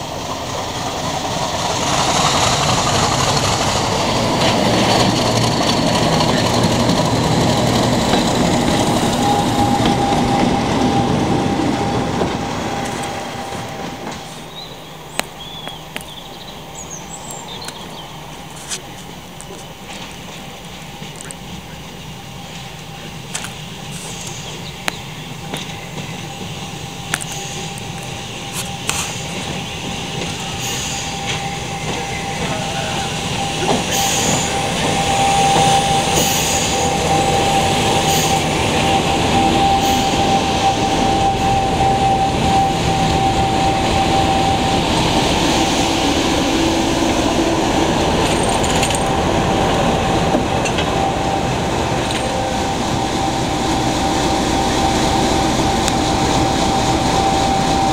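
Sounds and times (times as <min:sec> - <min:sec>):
diesel locomotive engine running: 0:00.0 - 0:57.9.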